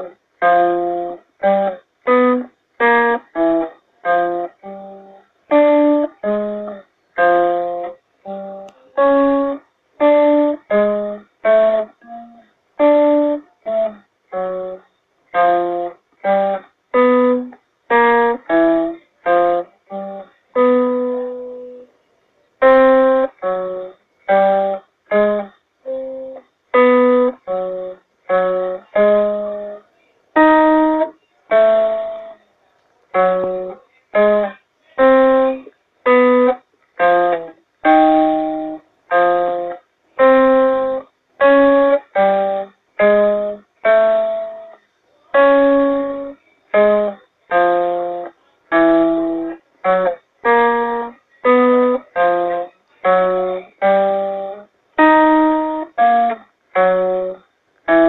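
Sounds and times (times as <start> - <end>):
acoustic guitar picking single notes: 0.0 - 21.9, 22.6 - 32.4, 33.1 - 58.0.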